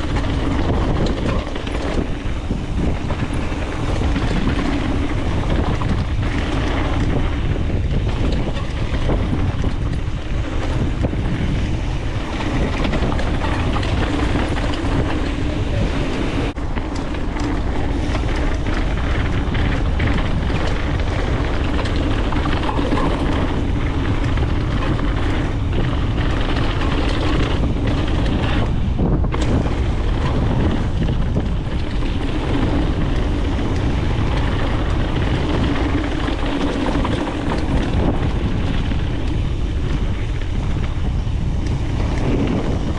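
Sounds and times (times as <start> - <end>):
bike knocks and rattles: 0.0 - 42.9
bike tyre noise: 0.0 - 42.9
wind buffeting microphone: 0.0 - 42.9.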